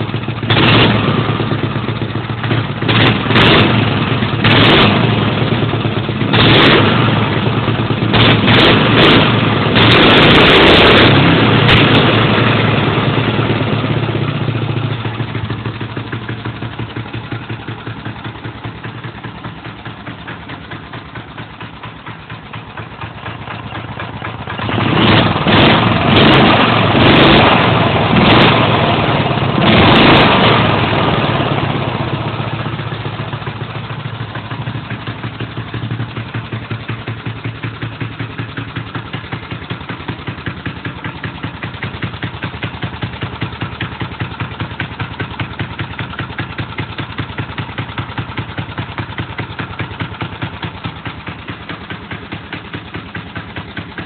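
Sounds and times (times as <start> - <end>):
small engine idling and revving: 0.0 - 54.0.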